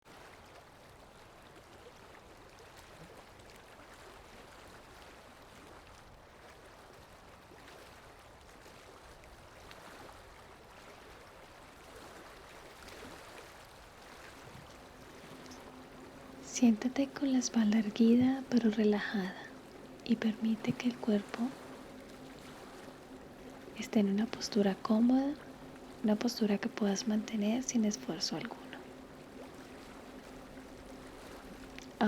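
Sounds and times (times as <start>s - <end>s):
faint sea waves: 0.1s - 32.0s.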